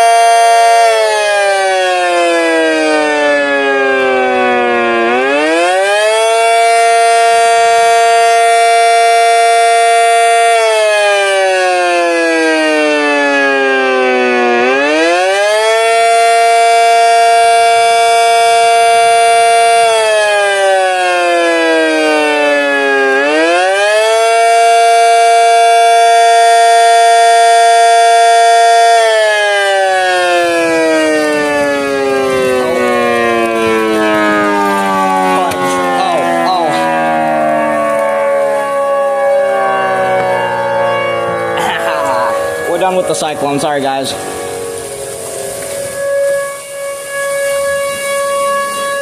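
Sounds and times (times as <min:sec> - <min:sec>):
small siren wailing: 0:00.0 - 0:49.0.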